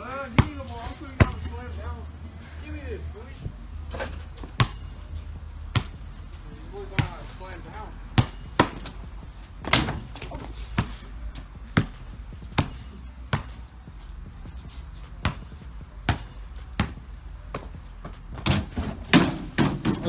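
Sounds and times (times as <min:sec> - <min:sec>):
basketball bouncing: 0:00.3 - 0:01.5, 0:03.9 - 0:20.0.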